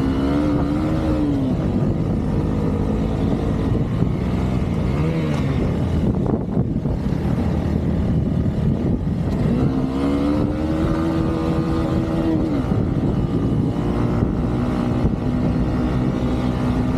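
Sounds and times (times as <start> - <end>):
motorcycle engine running: 0.0 - 16.9
wind on microphone: 0.0 - 16.9.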